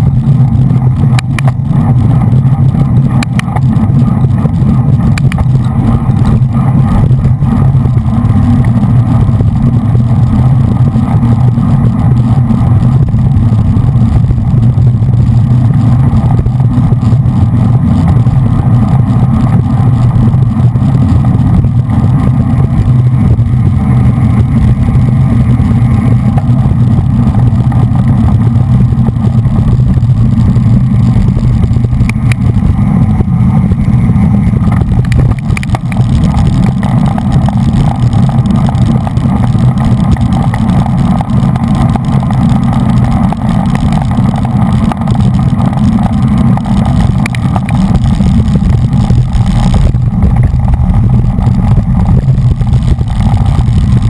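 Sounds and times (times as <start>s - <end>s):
heavy wind rumble: 0.0s - 54.0s.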